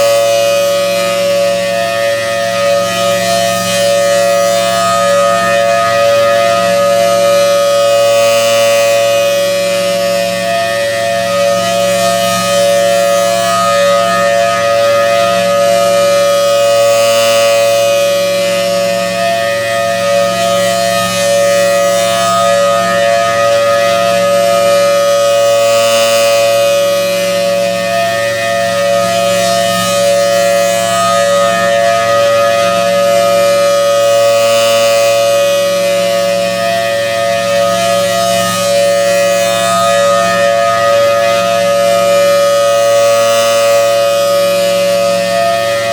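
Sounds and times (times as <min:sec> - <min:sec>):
rotating warning siren: 0:00.0 - 0:45.9.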